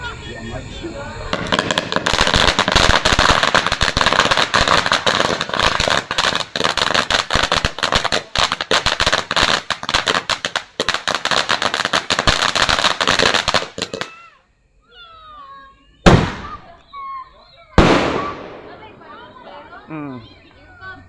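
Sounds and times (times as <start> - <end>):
firework hissing and crackling: 0.0 - 14.4, 16.0 - 21.0.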